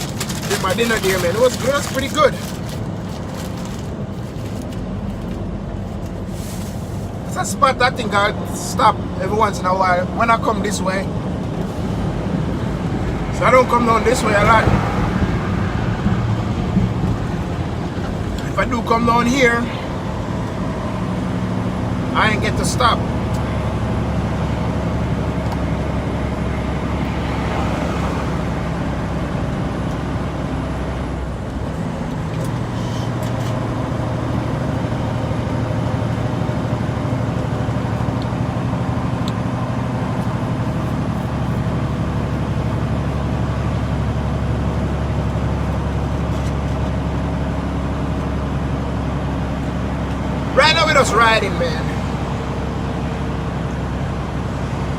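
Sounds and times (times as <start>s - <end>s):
road noise: 0.0s - 54.9s
truck diesel engine running: 0.0s - 54.9s.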